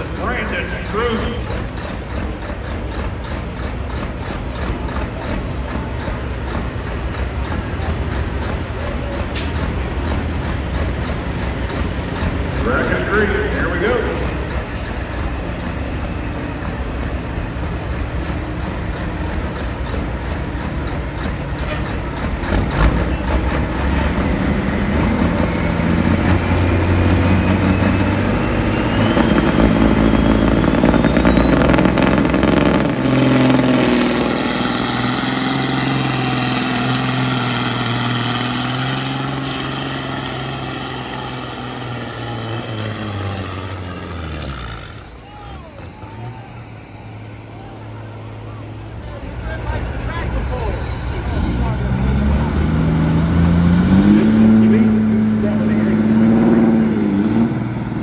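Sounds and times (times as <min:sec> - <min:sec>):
diesel truck engine revving hard: 0:00.0 - 0:58.0.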